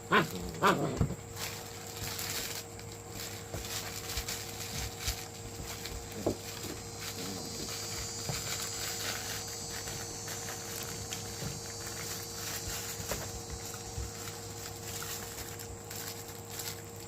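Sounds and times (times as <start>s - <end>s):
puppy paws scuffling: 0.1s - 17.0s.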